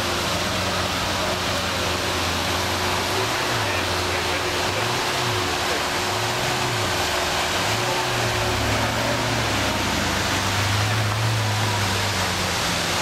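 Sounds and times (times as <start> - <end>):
car engine at low revs: 0.0 - 13.0
rushing background noise: 0.0 - 13.0.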